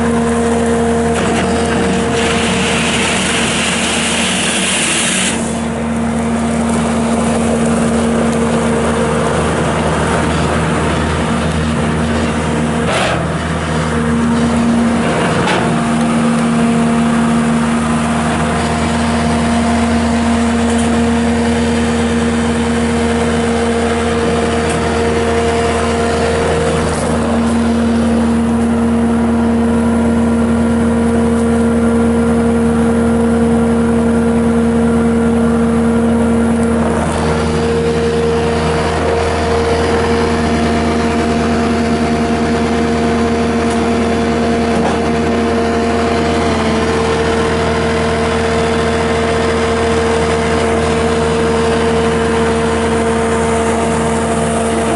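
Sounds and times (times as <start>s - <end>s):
loader diesel engine running: 0.0s - 54.9s
machine whine: 0.0s - 54.9s.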